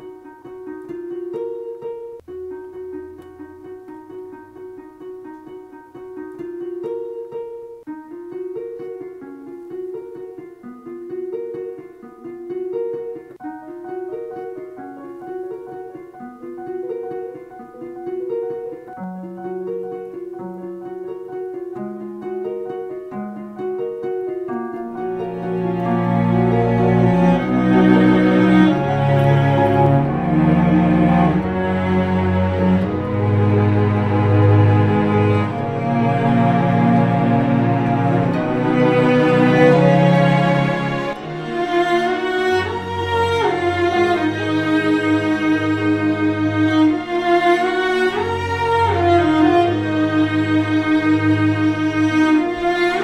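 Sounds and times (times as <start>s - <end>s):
digital piano: 0.0s - 51.1s.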